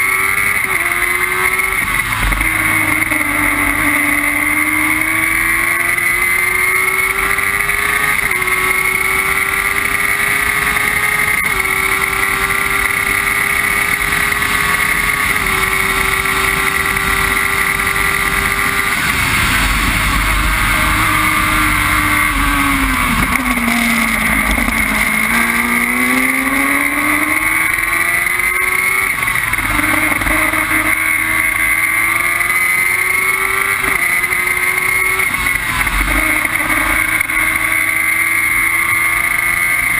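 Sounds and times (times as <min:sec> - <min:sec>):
race car engine revving through gears: 0:00.0 - 0:39.9.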